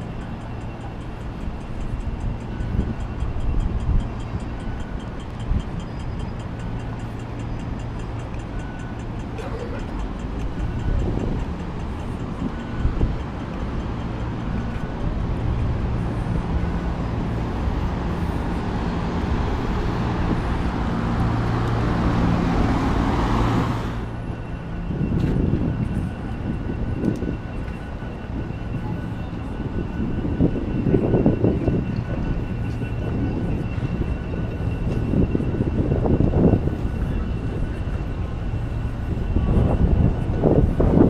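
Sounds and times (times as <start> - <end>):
low engine hum: 0.0 - 41.0
vehicles passing: 0.0 - 41.0.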